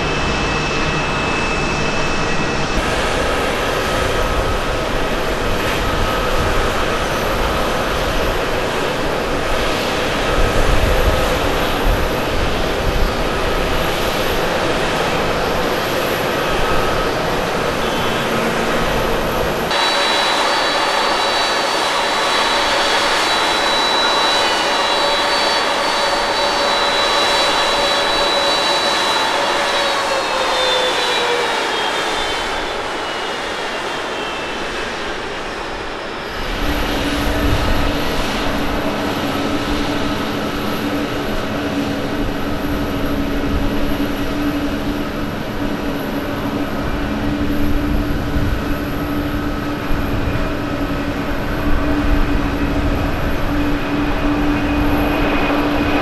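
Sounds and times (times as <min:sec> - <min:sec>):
jet engine whine: 0:00.0 - 0:56.0
jet engines rumbling on takeoff: 0:00.0 - 0:56.0.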